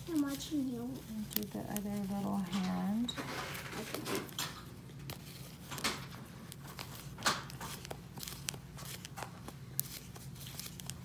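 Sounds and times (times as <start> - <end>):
hands rustling and clicking doll: 0.0 - 11.0.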